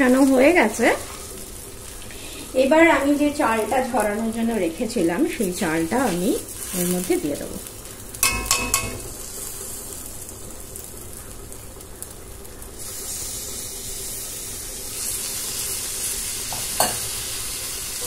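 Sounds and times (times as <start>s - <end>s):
rice sizzling in hot oil: 0.0s - 18.0s.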